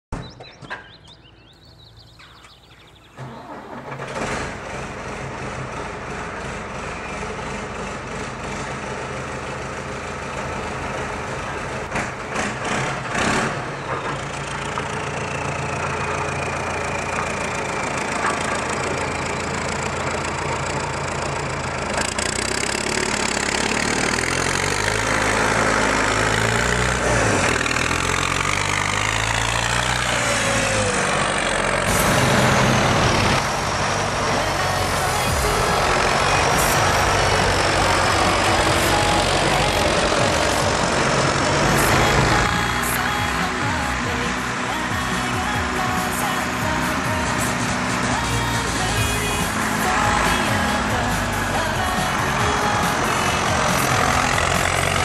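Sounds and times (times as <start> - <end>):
tractor diesel engine: 0.1 - 55.0.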